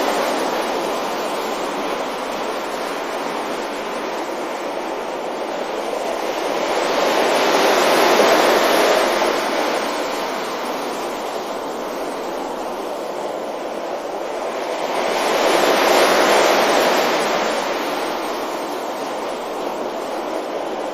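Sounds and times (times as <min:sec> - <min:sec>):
ocean waves breaking: 0:00.0 - 0:20.9.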